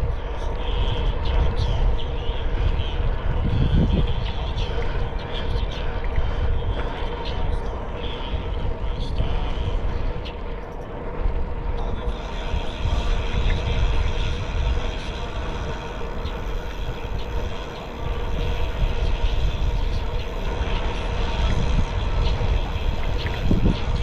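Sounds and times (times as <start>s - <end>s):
bicycle running noise: 0.0s - 24.0s
wind rumble on microphone: 0.0s - 24.0s.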